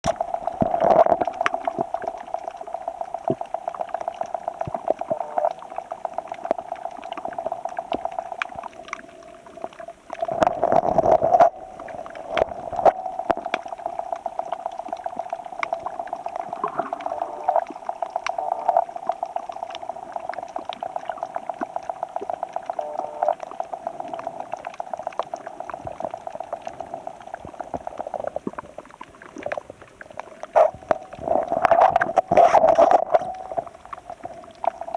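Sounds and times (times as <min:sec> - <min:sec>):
water bubbling and sloshing: 0:00.0 - 0:34.9.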